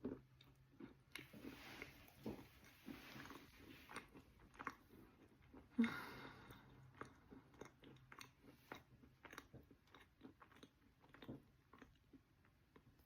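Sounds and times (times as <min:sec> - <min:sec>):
chewing crunches: 0:00.0 - 0:05.8, 0:06.5 - 0:13.0.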